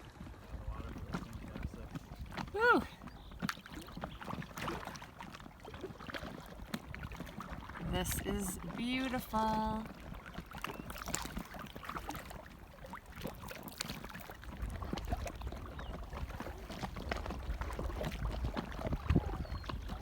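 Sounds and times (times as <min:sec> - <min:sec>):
paddles splashing in water: 0:00.0 - 0:20.0.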